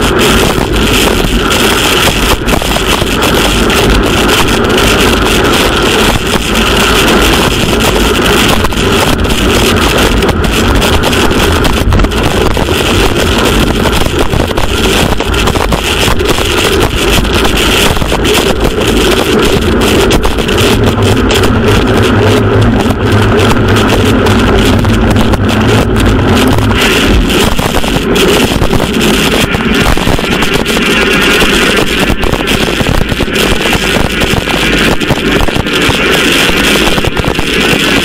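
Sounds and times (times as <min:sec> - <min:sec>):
bike tyres hissing on wet road: 0:00.0 - 0:38.0
wind buffeting microphone: 0:00.0 - 0:38.0.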